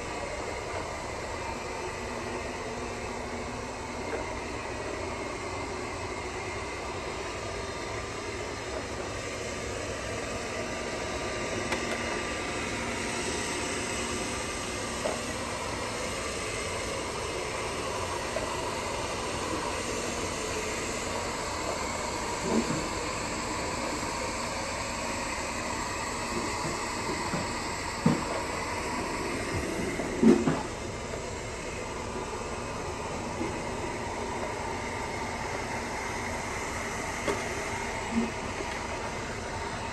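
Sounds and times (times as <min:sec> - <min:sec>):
robot vacuum motor and brush hum: 0:02.8 - 0:39.9.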